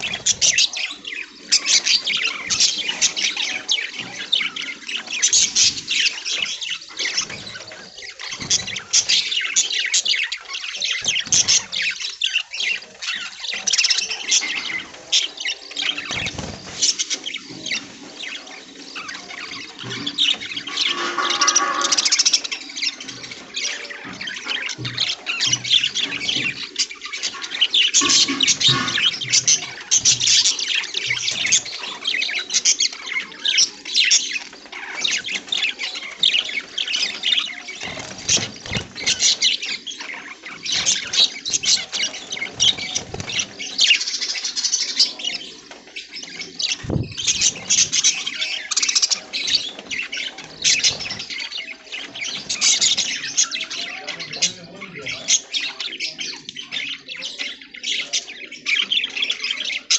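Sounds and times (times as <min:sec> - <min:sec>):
budgerigars chirping and squawking: 0:00.0 - 0:59.9.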